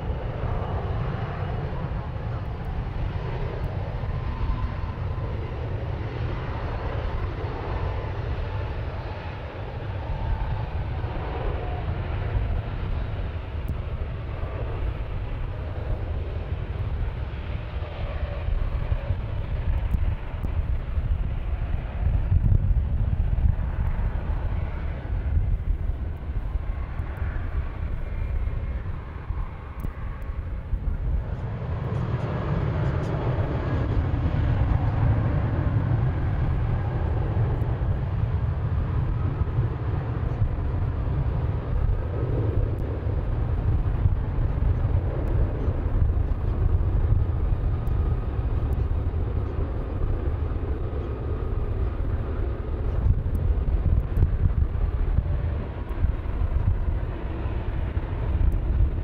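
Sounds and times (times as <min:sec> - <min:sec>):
airliner engines running: 0:00.0 - 0:59.0
wind buffeting microphone: 0:00.0 - 0:59.0.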